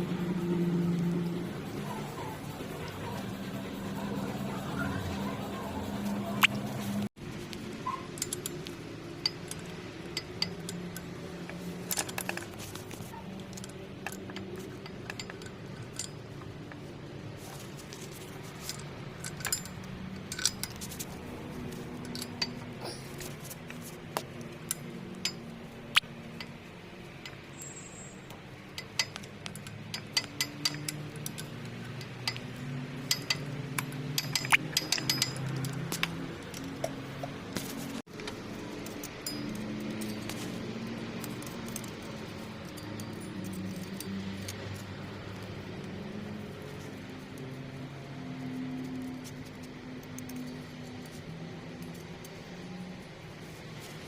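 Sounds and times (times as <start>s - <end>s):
metallic engine clatter: 0.0s - 53.6s
diesel engine hum: 0.0s - 54.0s.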